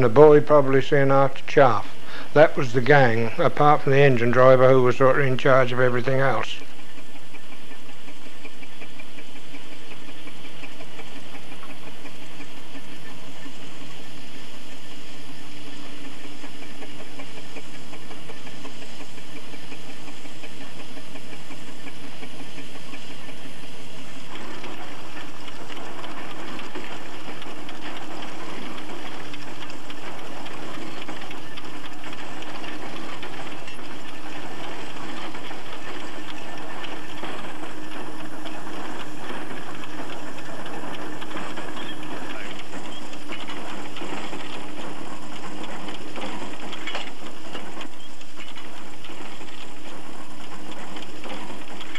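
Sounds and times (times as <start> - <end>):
threshing machine clattering: 0.0 - 51.9.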